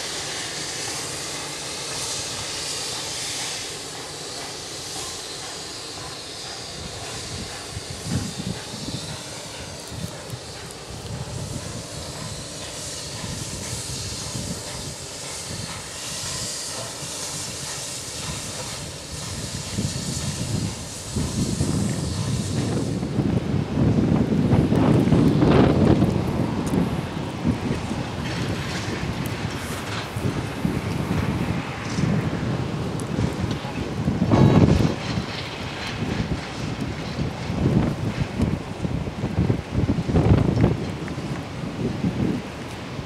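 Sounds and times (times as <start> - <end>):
low rumble of train: 0.0 - 43.0
steam hissing: 0.0 - 43.0.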